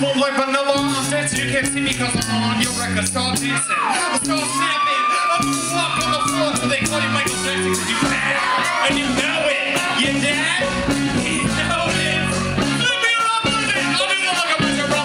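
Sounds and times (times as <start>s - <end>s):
live rock band: 0.0s - 15.0s
man singing: 0.8s - 15.0s.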